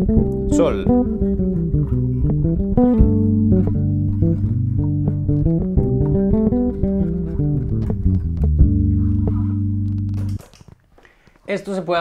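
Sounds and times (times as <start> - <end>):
electric bass melodic line: 0.0 - 10.4
looped chord backing: 0.0 - 10.4.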